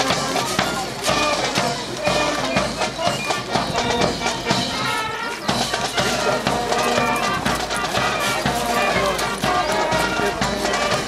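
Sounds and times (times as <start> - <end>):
marching band music: 0.0 - 11.0.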